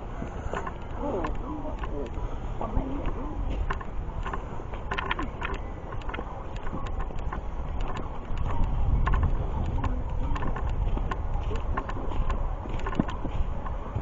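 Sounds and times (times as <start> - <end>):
footsteps crunching on trail: 0.0 - 14.0
steady low rumble: 0.0 - 14.0.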